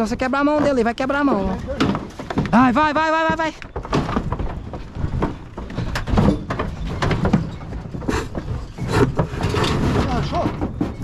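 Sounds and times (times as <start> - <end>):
cattle hooves knocking on wooden floor: 0.0 - 11.0.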